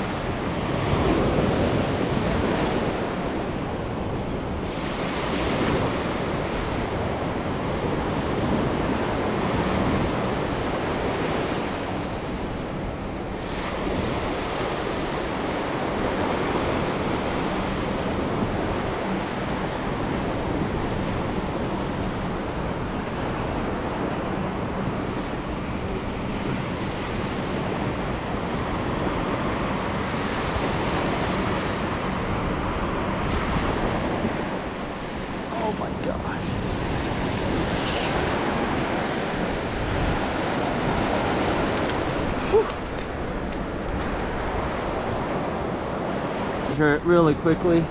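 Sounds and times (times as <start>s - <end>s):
small waves breaking on beach: 0.0s - 47.9s.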